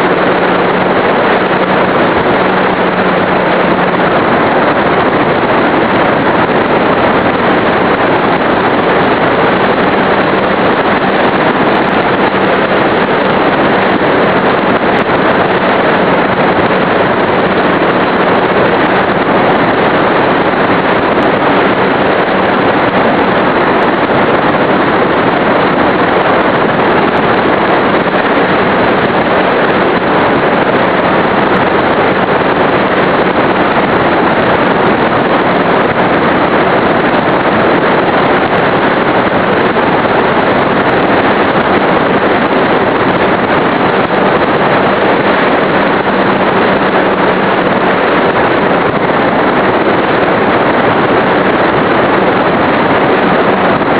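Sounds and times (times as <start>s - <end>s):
rush of air and propeller: 0.0s - 53.9s.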